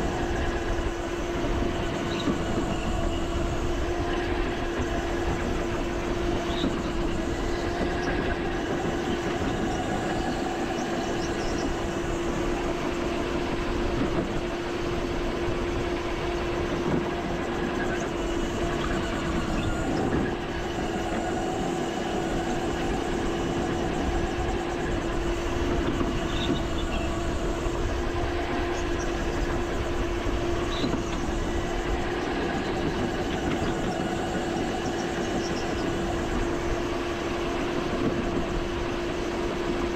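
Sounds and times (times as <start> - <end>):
go-kart engine drone: 0.0 - 39.9.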